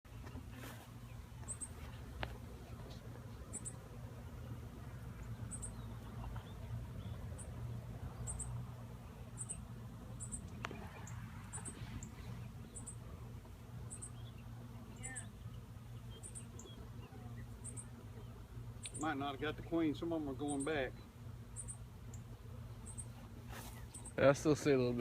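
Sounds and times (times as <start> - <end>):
bee swarm buzzing: 0.1 - 25.0.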